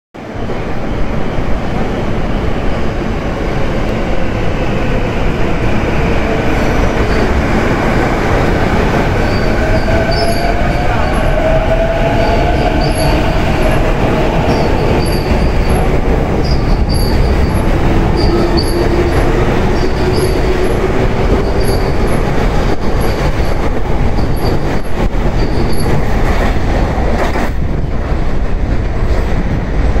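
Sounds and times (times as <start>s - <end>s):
wheels rumbling on rails: 0.2s - 30.0s.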